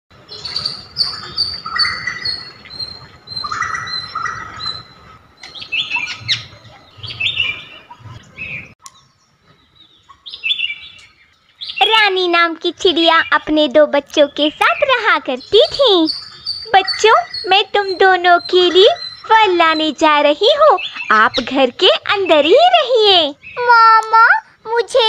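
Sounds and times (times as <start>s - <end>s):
birds chirping and twittering: 0.1s - 25.0s.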